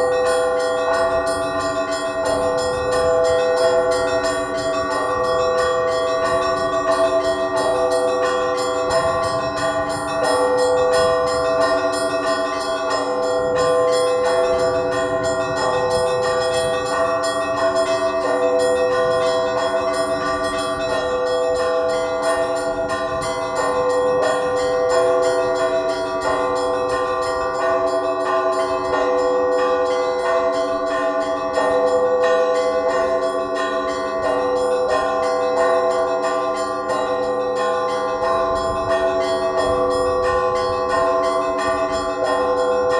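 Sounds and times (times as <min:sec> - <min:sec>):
church bells pealing: 0:00.0 - 0:42.9.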